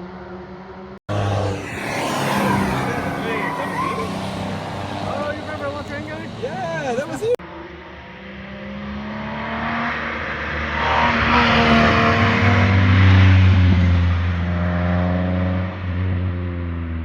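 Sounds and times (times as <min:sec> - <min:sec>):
car driving past: 0:01.1 - 0:16.9.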